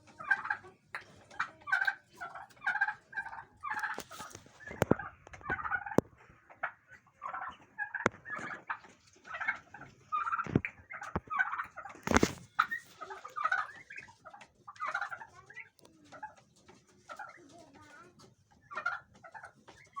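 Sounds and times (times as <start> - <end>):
pheasants chattering calls: 0.0 - 20.0.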